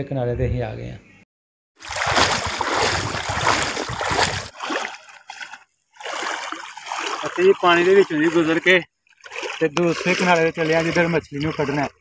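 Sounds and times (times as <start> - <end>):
feet splashing through water: 1.8 - 12.0.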